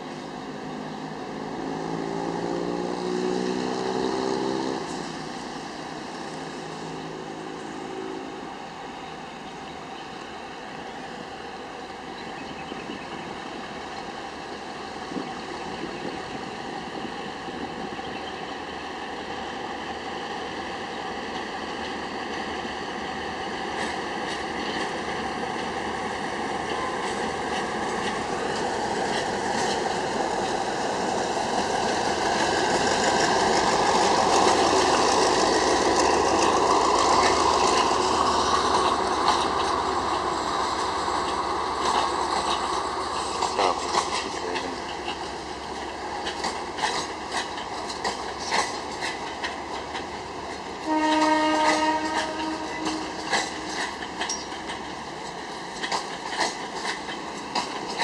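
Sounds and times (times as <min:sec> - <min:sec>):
diesel locomotive engine: 0:00.0 - 0:58.0
train wheels on rails: 0:00.0 - 0:58.0.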